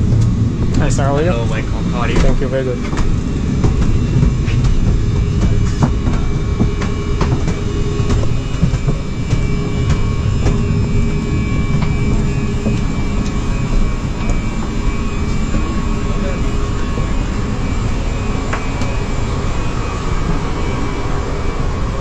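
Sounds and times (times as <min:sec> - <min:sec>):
low rumble of engines and airflow: 0:00.0 - 0:22.0.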